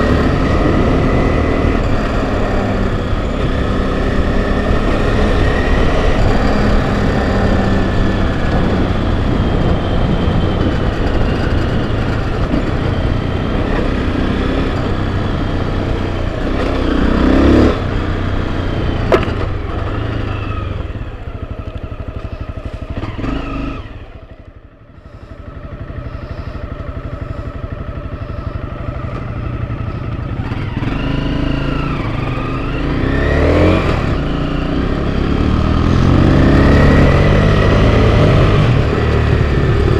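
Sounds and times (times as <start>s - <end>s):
dirt bike engine revving: 0.0s - 24.3s, 25.0s - 39.9s.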